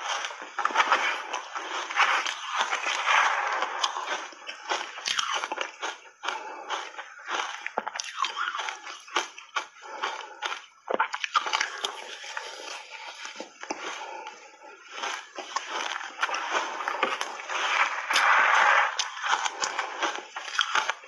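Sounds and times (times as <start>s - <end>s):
crunching shaved ice: 0.0s - 14.1s, 14.9s - 21.0s.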